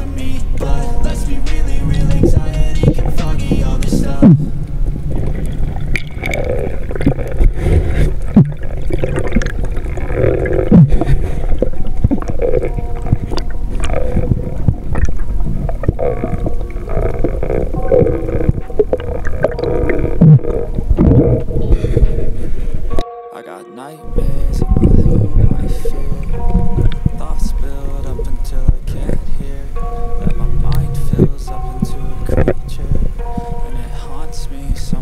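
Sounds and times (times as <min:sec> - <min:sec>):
wavering drone: 0:00.0 - 0:35.0
low underwater rumble: 0:00.6 - 0:23.0, 0:24.1 - 0:35.0.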